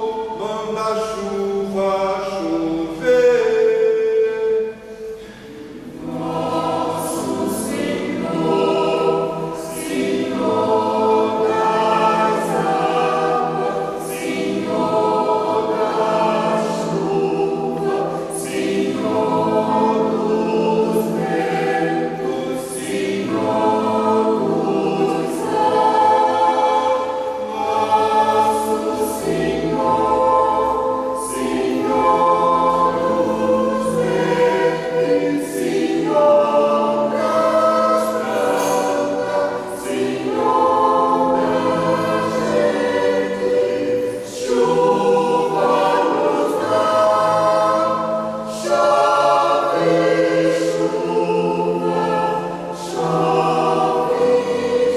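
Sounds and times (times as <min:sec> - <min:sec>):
choir singing: 0:00.0 - 0:54.9
piano accompaniment: 0:00.0 - 0:54.9.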